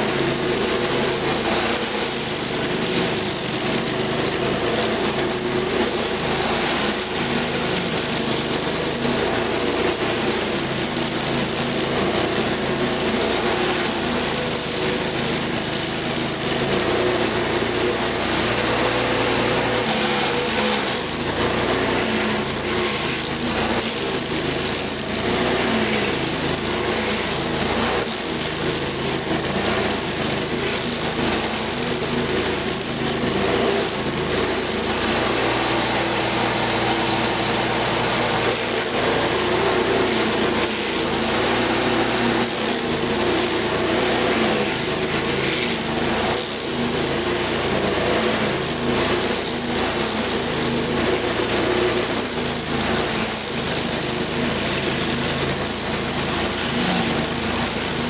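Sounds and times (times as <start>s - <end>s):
stump grinder engine drone: 0.0s - 58.0s.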